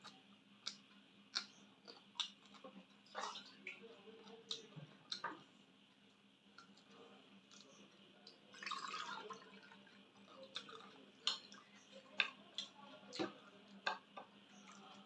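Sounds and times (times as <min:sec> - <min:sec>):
wet eating clicks and smacks: 0:00.0 - 0:08.4, 0:10.2 - 0:15.0.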